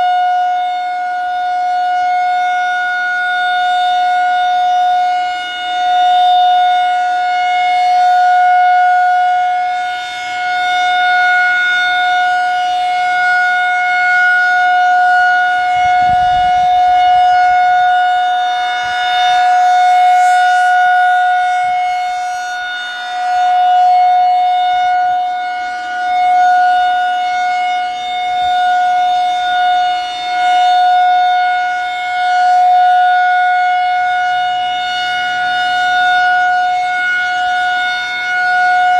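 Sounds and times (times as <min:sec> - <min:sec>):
siren steady tone: 0:00.0 - 0:38.9.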